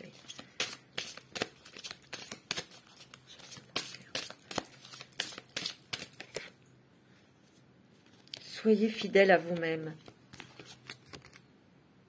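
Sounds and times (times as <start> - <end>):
cards being shuffled: 0.0 - 6.5, 8.0 - 11.4.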